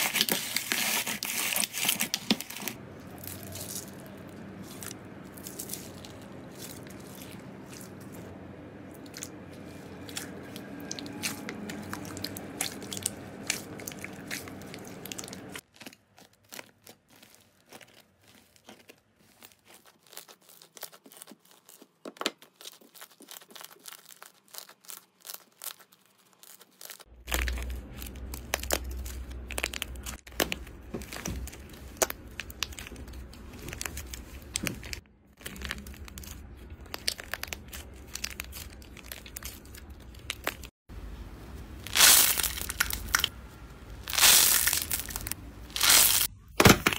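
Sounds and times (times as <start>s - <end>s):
clay coating crunching: 0.0s - 40.8s, 41.6s - 46.9s
slime crackling rustle: 0.0s - 46.3s.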